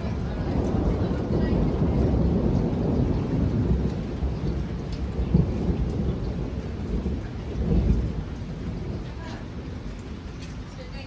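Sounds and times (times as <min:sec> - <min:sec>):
rain hissing: 0:00.0 - 0:11.0
thunder rumbling: 0:00.0 - 0:11.0.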